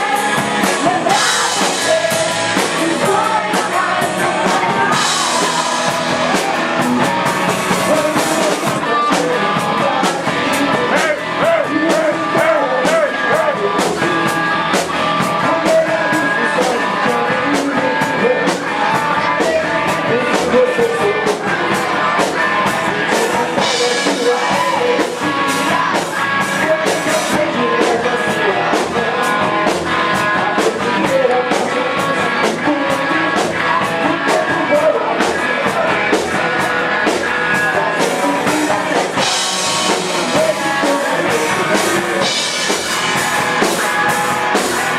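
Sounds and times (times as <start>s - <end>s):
distorted electric guitar: 0.0s - 44.9s
drum kit with cymbal hits: 0.0s - 44.9s
person singing: 0.0s - 44.9s.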